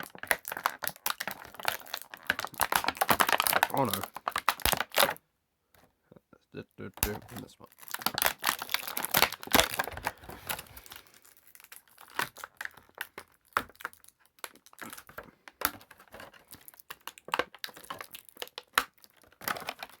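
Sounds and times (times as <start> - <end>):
plastic packaging crinkling: 0.0 - 5.2, 7.0 - 20.0.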